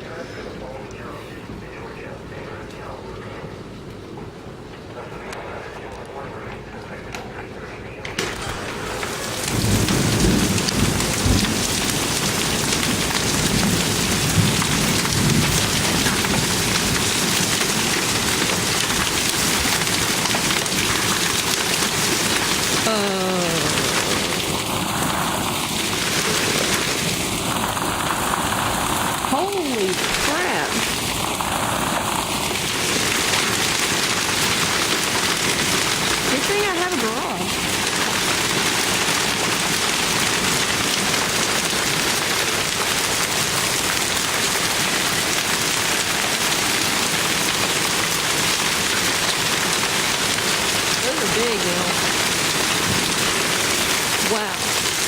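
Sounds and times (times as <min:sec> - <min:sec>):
hail pelting down: 0:08.1 - 0:55.0.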